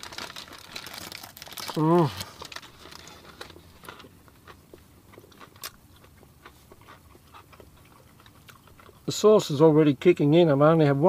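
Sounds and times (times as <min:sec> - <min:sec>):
person chewing crunchy food: 0:00.0 - 0:09.1.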